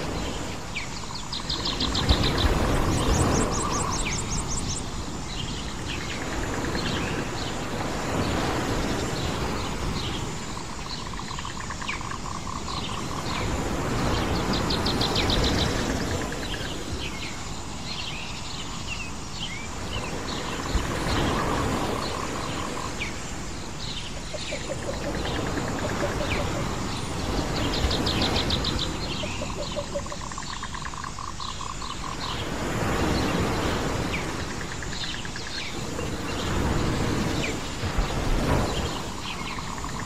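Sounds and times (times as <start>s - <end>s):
birds chirping and trilling: 0.0s - 40.0s.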